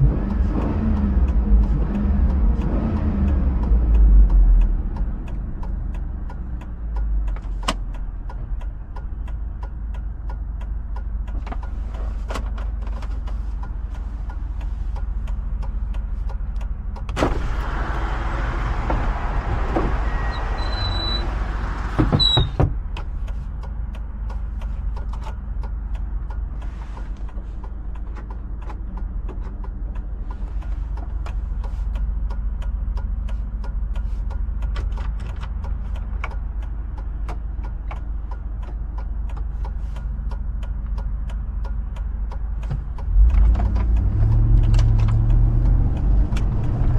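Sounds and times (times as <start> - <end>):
engine humming: 0.0 - 46.9.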